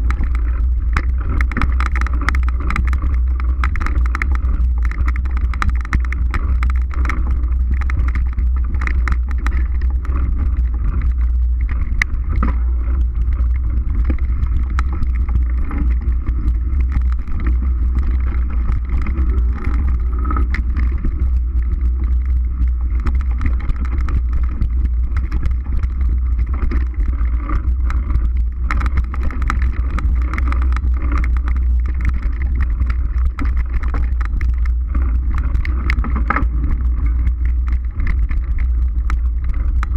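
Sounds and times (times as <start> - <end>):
bike rattles and knocks: 0.0 - 39.9.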